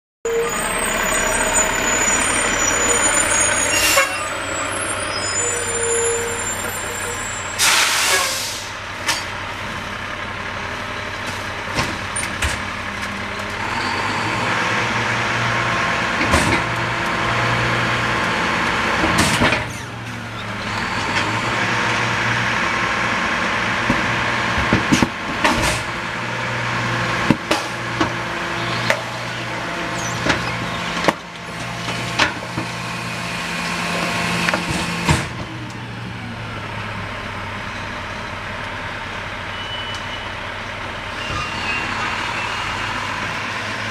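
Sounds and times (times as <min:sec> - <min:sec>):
garbage truck engine and hydraulics: 0:00.3 - 0:43.9.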